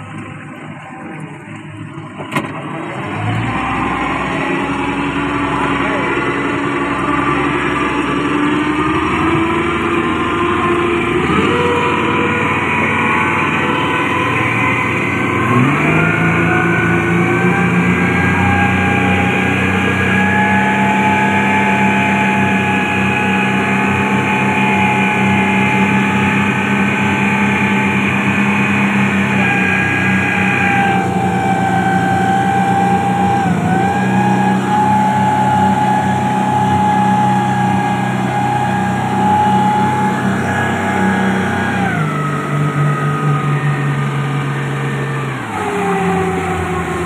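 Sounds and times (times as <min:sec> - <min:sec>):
engine whine: 0:00.0 - 0:47.0
outboard motors running at high speed: 0:00.0 - 0:47.0.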